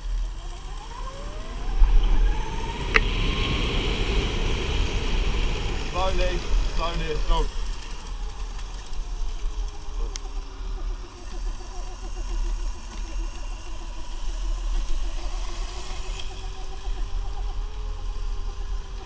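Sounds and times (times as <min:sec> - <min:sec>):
electric motor whining: 0:00.0 - 0:19.0
wind rumble on microphone: 0:00.0 - 0:19.0.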